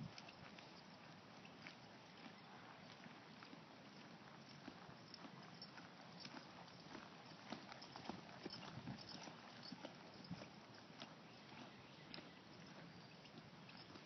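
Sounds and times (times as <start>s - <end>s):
faint hoofbeats on dirt: 0.0s - 14.0s.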